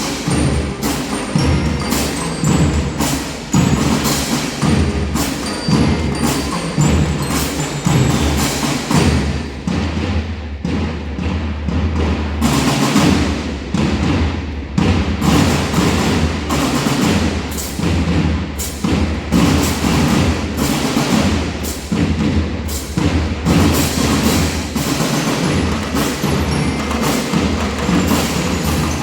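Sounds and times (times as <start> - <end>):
bands playing percussion piece: 0.0 - 29.0.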